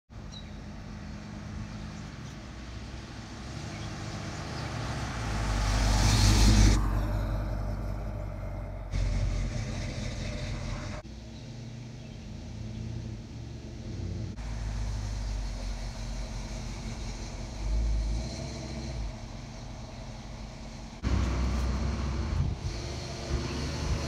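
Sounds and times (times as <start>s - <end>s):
car engine driving past: 0.7s - 24.0s.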